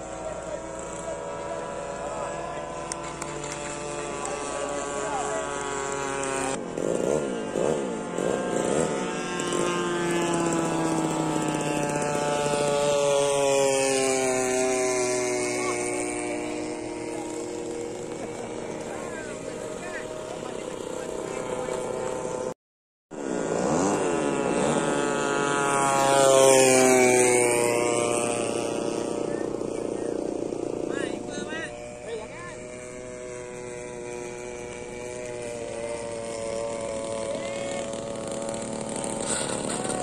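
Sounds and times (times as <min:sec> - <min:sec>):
model plane motor and propeller: 0:00.0 - 0:40.0.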